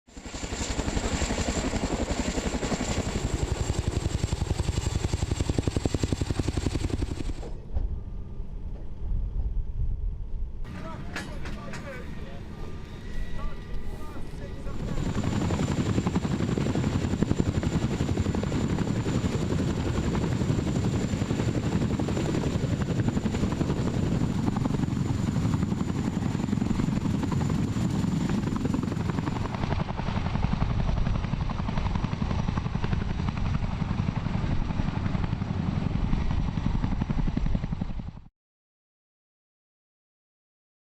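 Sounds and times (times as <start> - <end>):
helicopter rotors and engine: 0.1 - 9.6, 10.2 - 38.3.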